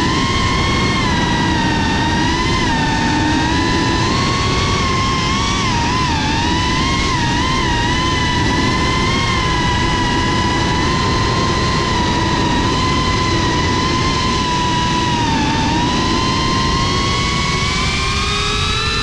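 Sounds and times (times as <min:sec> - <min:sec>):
drone motors and propellers whining: 0:00.0 - 0:19.0.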